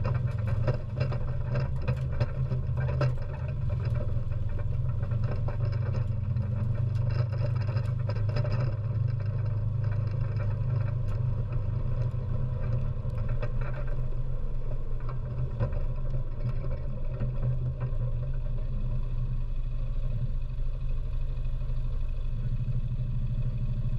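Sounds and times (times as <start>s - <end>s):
atv engine running: 0.0s - 23.9s
rattles and clicks over bumps: 0.0s - 23.9s.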